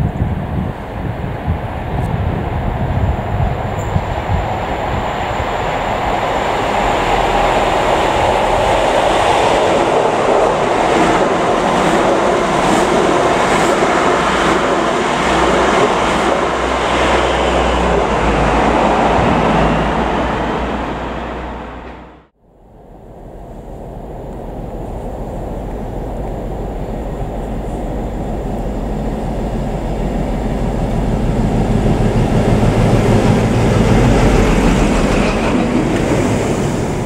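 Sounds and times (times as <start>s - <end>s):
train rushing past: 0.0s - 37.0s.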